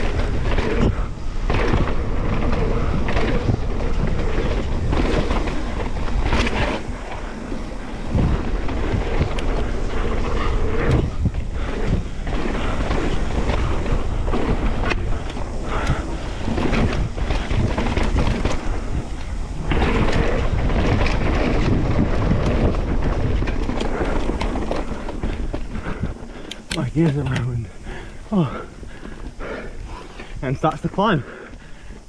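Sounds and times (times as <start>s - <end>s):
bike rattling and knocking: 0.0s - 32.0s
tyres rumbling over dirt: 0.0s - 32.0s
wind buffeting microphone: 0.0s - 32.0s.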